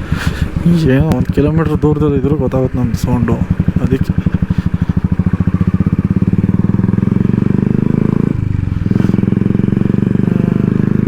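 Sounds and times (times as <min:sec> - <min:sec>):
motorcycle engine running loud: 0:00.0 - 0:11.0.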